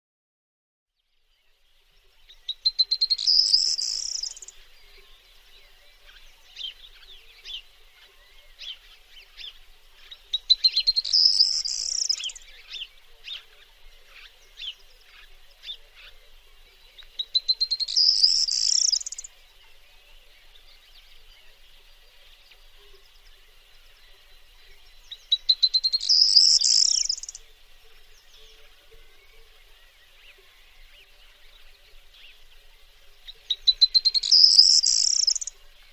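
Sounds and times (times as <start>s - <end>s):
high background of birds or insects: 0.9s - 35.9s
faint chirps: 1.1s - 35.9s.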